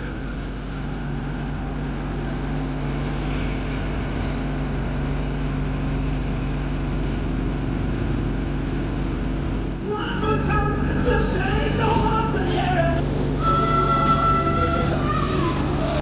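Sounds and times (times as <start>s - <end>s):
vehicle engine humming steadily: 0.0s - 16.0s.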